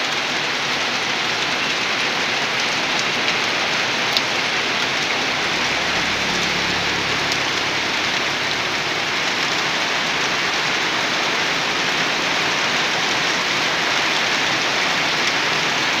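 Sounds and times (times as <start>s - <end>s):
steady rain on ground and foliage: 0.0s - 16.0s.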